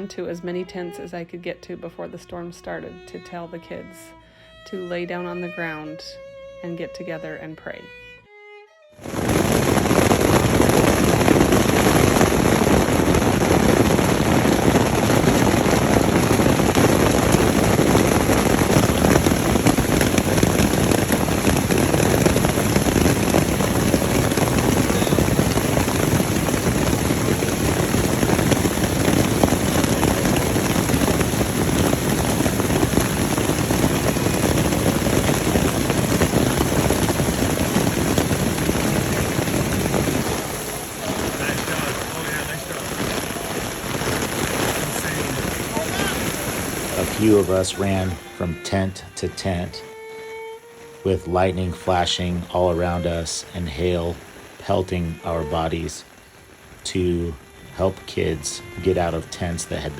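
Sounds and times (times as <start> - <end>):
heavy rain pelting: 9.0 - 59.9.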